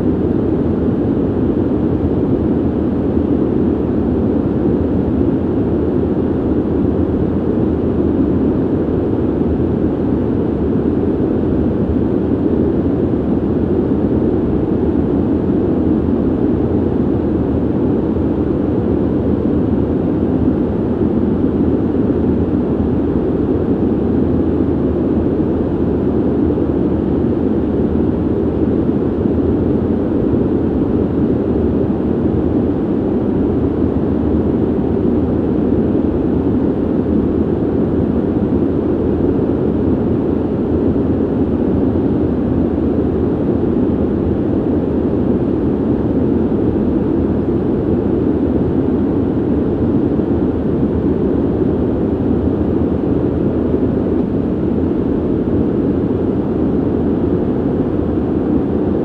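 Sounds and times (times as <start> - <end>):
ventilation air rushing: 0.0 - 59.0.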